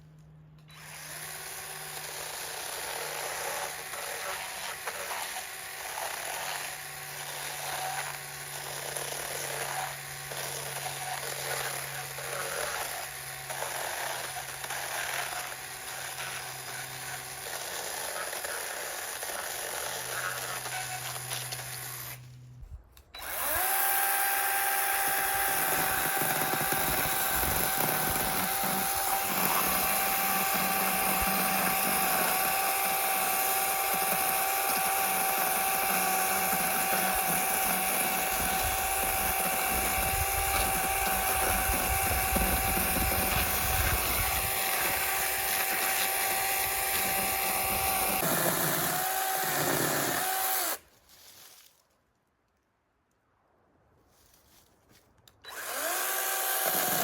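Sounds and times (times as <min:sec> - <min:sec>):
power tool motor whining: 0:00.6 - 0:50.8, 0:55.4 - 0:57.0.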